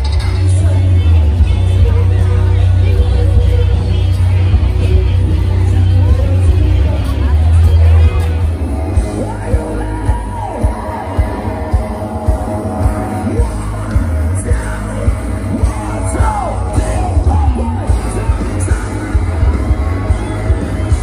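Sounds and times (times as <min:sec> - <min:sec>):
loud music with steady bass: 0:00.0 - 0:21.0
voices singing and yelling: 0:00.0 - 0:21.0.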